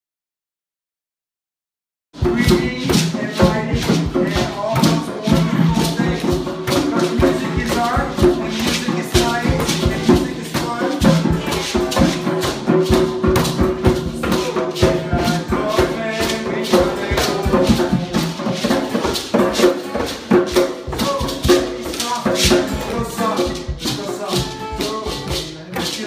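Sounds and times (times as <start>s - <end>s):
hand percussion hits and rattles: 2.2s - 26.0s.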